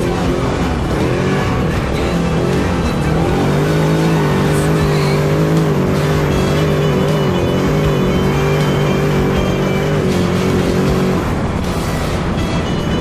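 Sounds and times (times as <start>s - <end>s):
music: 0.0s - 13.0s
race vehicle engine running: 0.0s - 13.0s.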